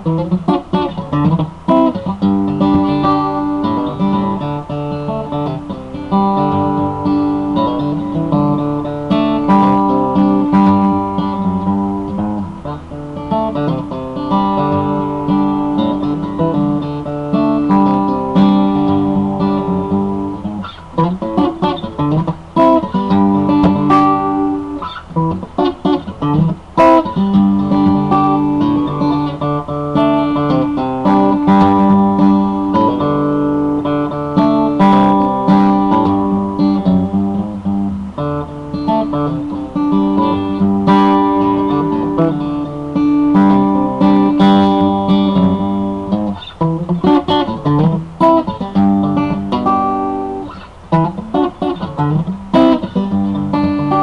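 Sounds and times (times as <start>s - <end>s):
plucked guitar-like music: 0.0s - 54.0s.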